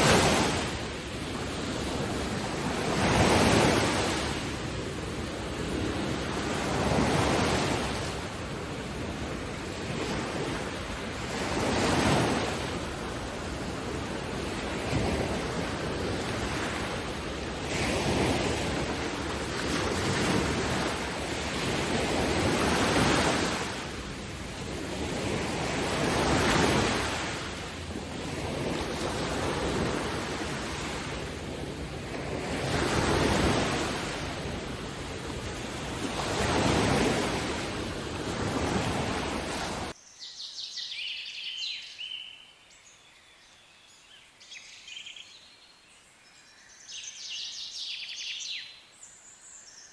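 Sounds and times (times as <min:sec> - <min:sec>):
ocean waves breaking: 0:00.0 - 0:40.0
wind: 0:00.0 - 0:49.9.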